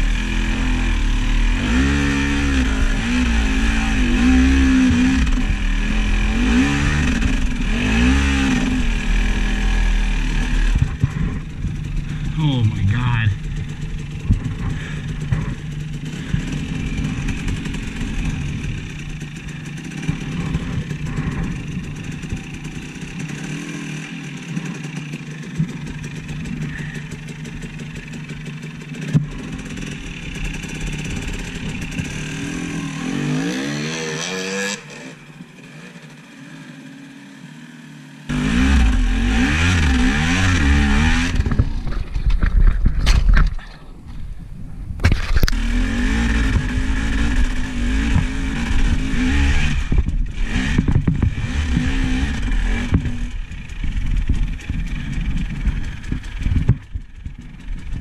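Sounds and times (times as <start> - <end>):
off-road vehicle engine: 0.0 - 58.0.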